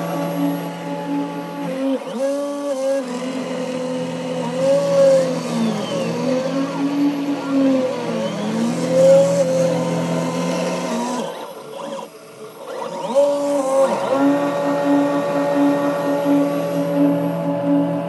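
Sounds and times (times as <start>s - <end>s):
router spindle whine: 0.0s - 18.0s
stepper motor tones sweeping: 0.0s - 18.0s.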